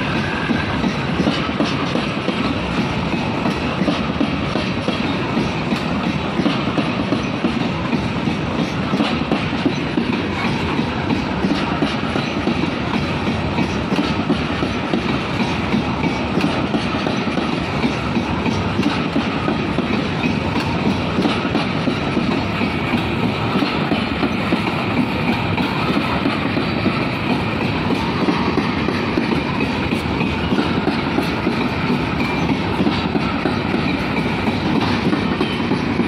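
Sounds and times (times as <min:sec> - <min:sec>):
steel wheels rumbling on rail: 0:00.0 - 0:36.0
wheels clacking over rail joints: 0:00.0 - 0:36.0.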